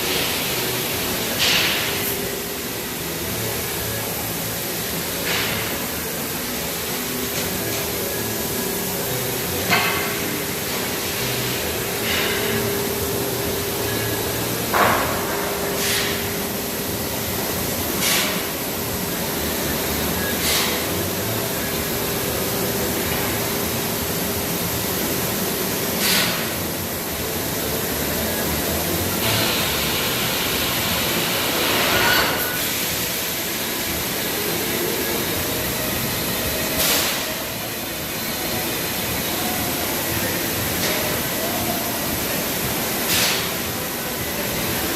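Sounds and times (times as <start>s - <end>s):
laser cutter hissing: 0.0s - 44.9s.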